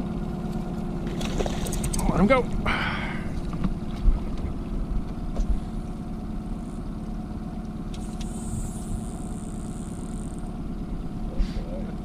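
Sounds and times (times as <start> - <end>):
boat motor idling: 0.0 - 12.0.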